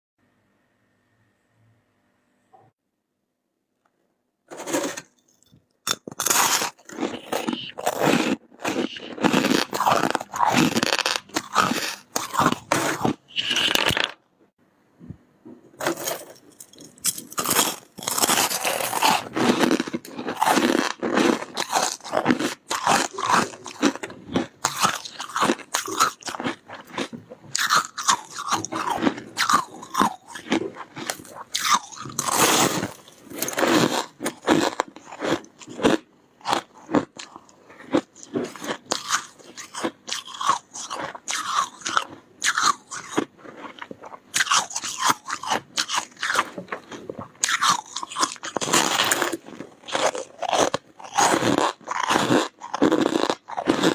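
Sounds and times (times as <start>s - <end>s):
frost being chewed: 5.4s - 14.2s, 16.4s - 53.9s.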